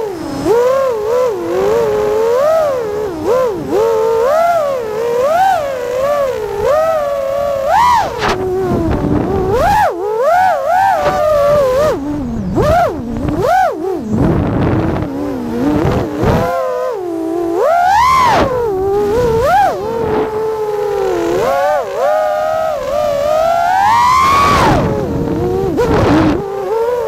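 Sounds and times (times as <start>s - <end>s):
racing drone motors whining: 0.0s - 27.0s.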